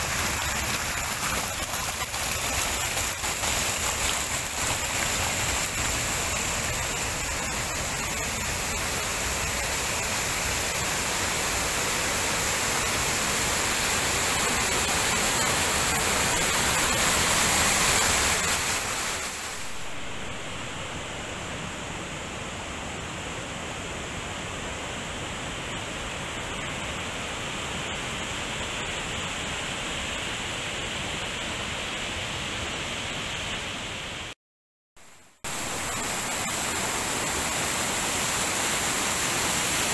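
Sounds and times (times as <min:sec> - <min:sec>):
stream rushing over rocks: 0:00.0 - 0:32.4, 0:35.1 - 0:39.9.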